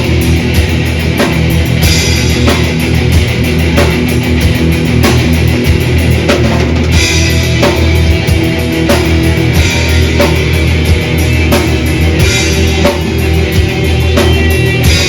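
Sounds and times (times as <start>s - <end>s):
distorted electric guitars: 0.0s - 15.0s
pounding drum kit: 0.0s - 15.0s.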